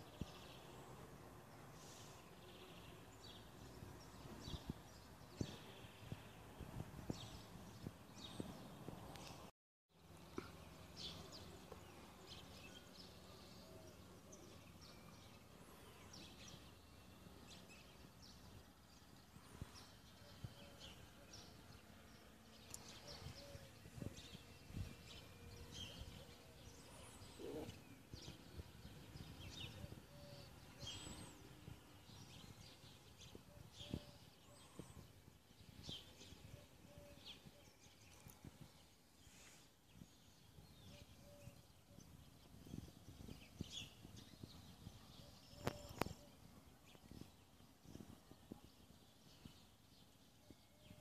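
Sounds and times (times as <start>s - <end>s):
faint outdoor ambience: 0.0s - 51.0s.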